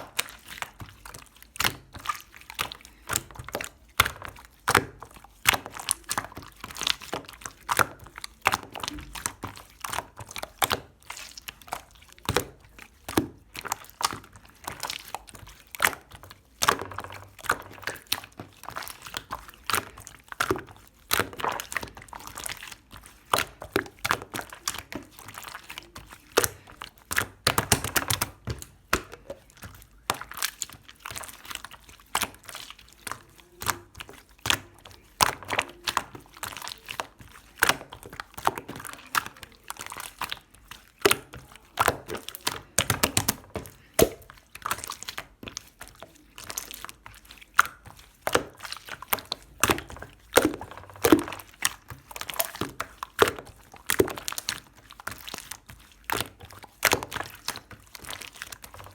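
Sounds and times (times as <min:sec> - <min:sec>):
slime squished by hand: 0:00.0 - 0:58.9.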